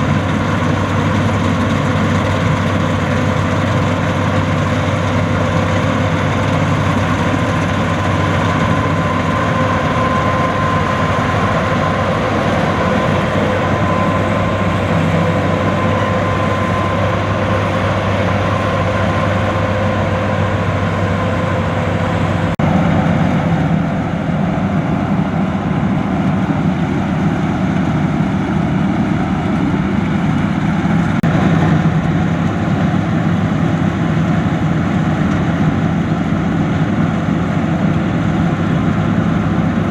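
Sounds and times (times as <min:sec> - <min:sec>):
combine harvester engine drone: 0:00.0 - 0:39.9
machinery whine: 0:00.0 - 0:39.9.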